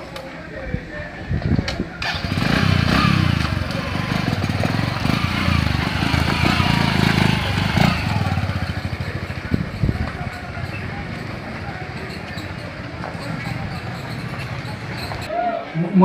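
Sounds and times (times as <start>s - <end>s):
small engine running: 2.0s - 15.0s.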